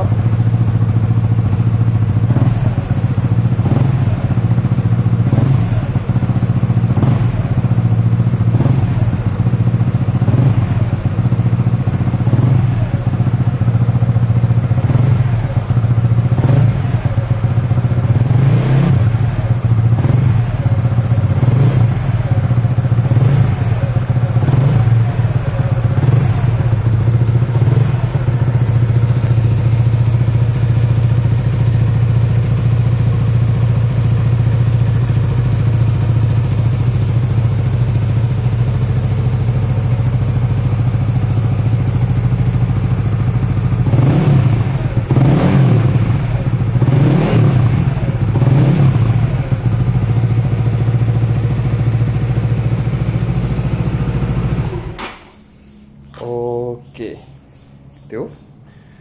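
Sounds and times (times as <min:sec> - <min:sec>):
engine clatter: 0:00.0 - 0:55.5
motorcycle engine idling: 0:00.0 - 0:59.0.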